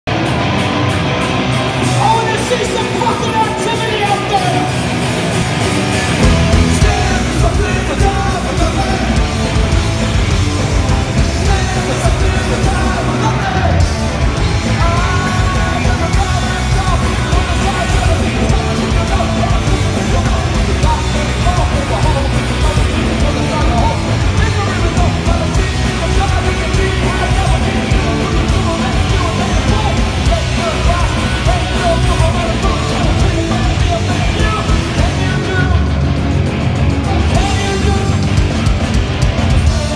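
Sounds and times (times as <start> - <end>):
punk rock band playing live: 0.0 - 39.9
shouted lead vocals: 0.1 - 39.9.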